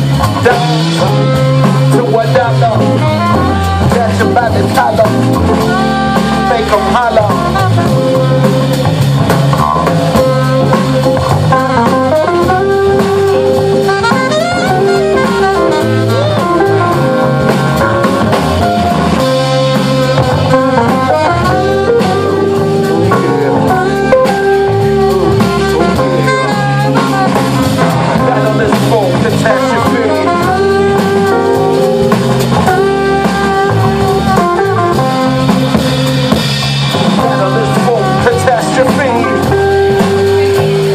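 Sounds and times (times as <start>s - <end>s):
jazz blues band playing: 0.0s - 40.9s.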